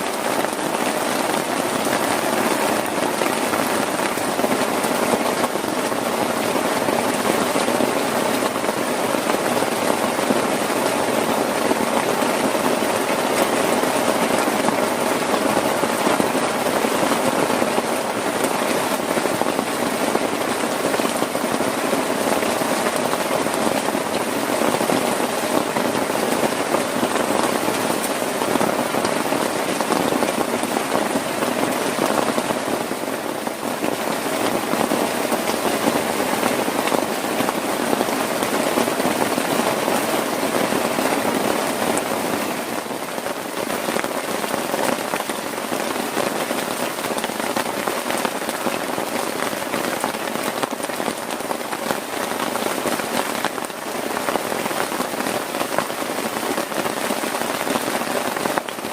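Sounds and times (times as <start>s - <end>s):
heavy rain on a tent: 0.0s - 58.9s.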